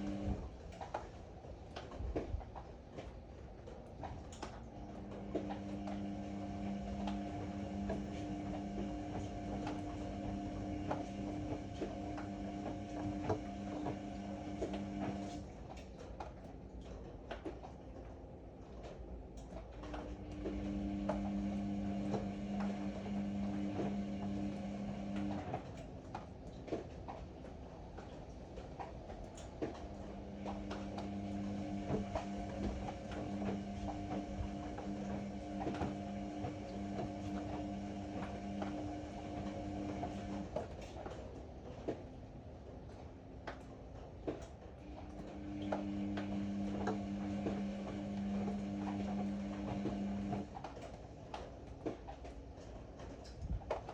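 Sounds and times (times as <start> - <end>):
washing machine drum motor humming: 0.0 - 17.5, 18.8 - 42.0, 42.9 - 53.9.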